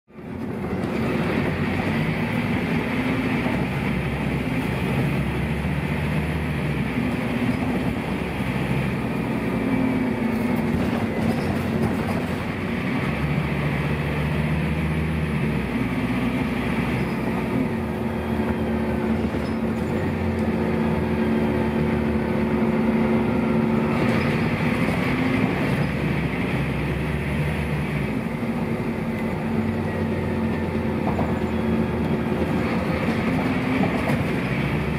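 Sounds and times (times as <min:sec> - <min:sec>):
bus diesel engine under load: 0:00.1 - 0:34.9.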